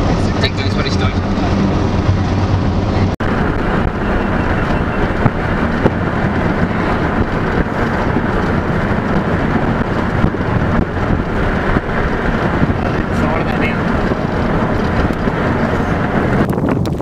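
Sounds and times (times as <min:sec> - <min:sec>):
vehicle road noise on dirt: 0:00.0 - 0:17.0
wind rushing over microphone: 0:00.0 - 0:17.0.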